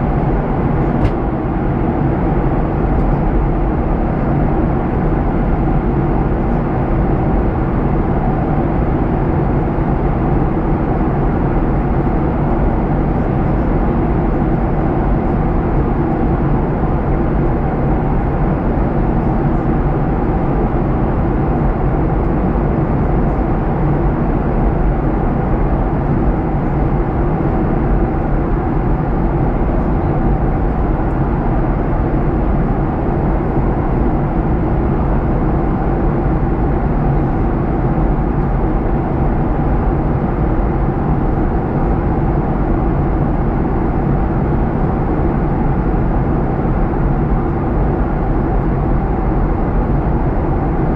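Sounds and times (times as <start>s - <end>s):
jet engine drone in cabin: 0.0s - 50.9s.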